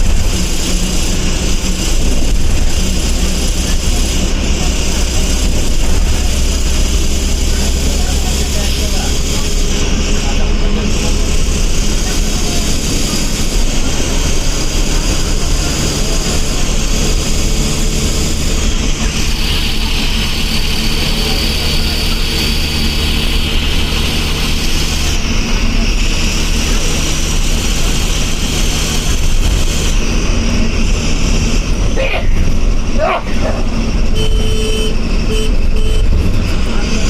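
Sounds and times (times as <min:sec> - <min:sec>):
bus diesel engine running: 0:00.0 - 0:37.0
tyre and road noise: 0:00.0 - 0:37.0.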